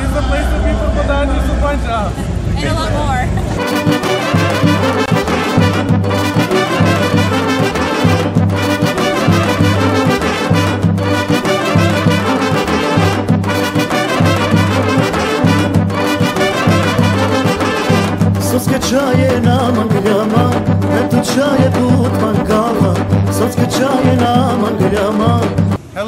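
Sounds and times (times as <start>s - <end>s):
upbeat brass-led music: 3.6s - 25.8s.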